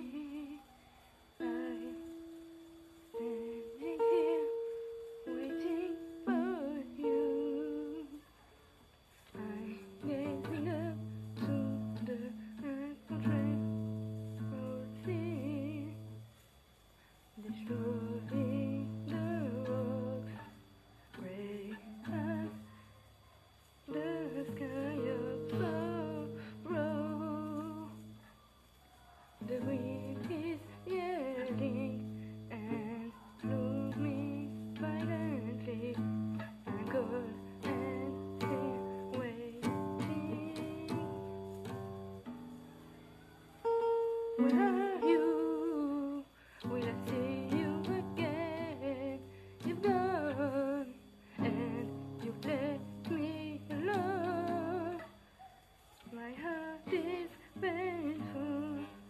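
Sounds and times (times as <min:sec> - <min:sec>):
woman humming: 0:00.0 - 0:16.3, 0:17.3 - 0:28.5, 0:29.3 - 0:55.4, 0:56.0 - 0:59.0
classical guitar fingerpicked: 0:01.3 - 0:08.2, 0:08.9 - 0:16.3, 0:17.4 - 0:22.8, 0:23.7 - 0:28.3, 0:29.4 - 0:55.2, 0:56.2 - 0:59.0.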